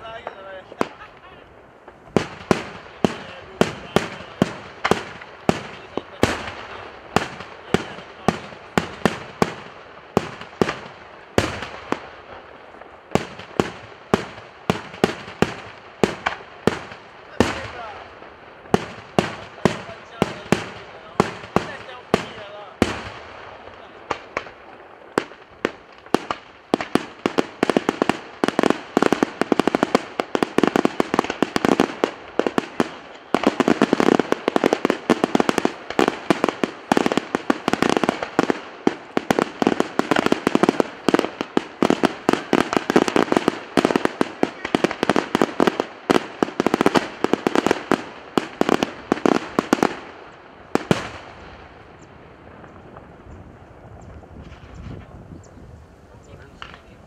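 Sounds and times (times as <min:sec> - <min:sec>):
fireworks bangs and cracks: 0:00.0 - 0:55.5, 0:56.3 - 0:57.0.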